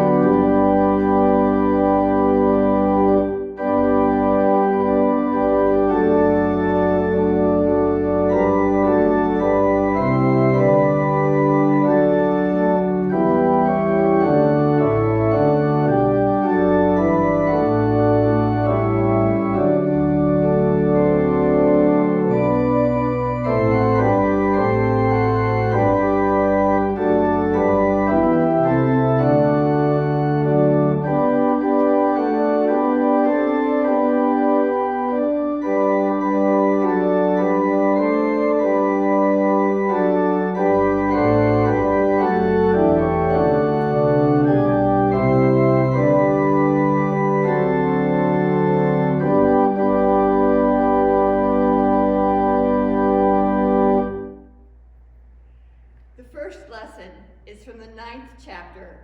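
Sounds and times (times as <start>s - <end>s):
church organ playing hymn chords: 0.0s - 55.0s.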